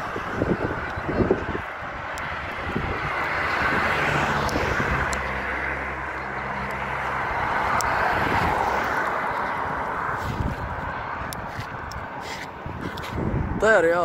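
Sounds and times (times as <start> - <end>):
vehicle engine humming low: 0.0 - 13.9
road traffic passing: 0.0 - 14.0.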